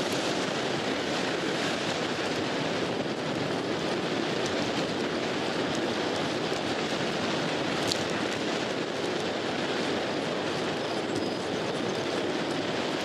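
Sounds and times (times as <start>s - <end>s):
bike tyres rolling on pavement: 0.0s - 13.0s.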